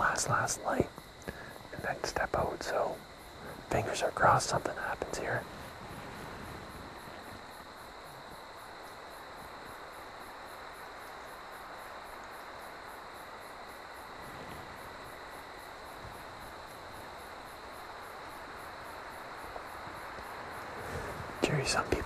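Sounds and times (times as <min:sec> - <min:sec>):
crickets chirping: 0:00.0 - 0:22.0
even hiss: 0:00.0 - 0:22.0.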